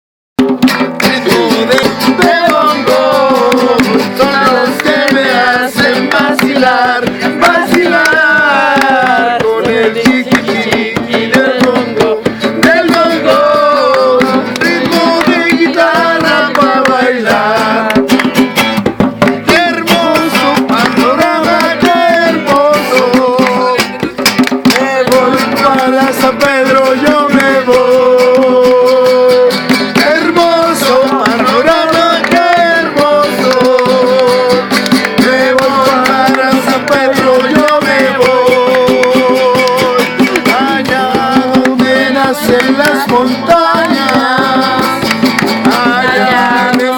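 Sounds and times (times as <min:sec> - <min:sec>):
acoustic guitar: 0:00.4 - 0:46.9
bongos playing: 0:00.4 - 0:46.9.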